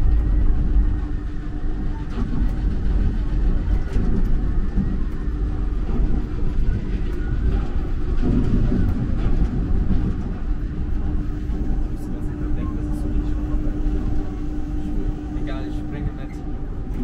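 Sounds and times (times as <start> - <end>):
faint even hum: 0.0 - 17.0
train low rumble: 0.0 - 17.0.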